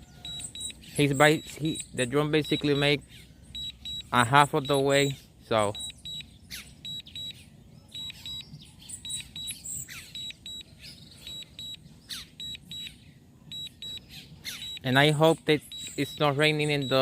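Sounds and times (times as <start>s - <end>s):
bird chirps: 0.0s - 17.0s
high electronic warning beeps: 0.0s - 17.0s.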